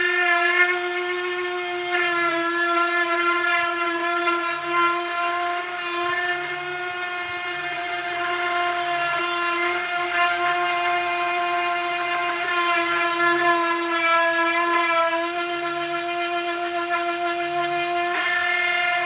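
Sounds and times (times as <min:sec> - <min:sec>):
electric sander on wood: 0:00.0 - 0:19.0.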